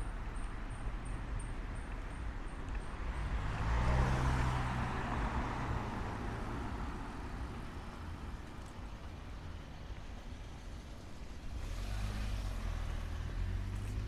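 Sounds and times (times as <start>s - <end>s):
street background: 0.0s - 14.0s.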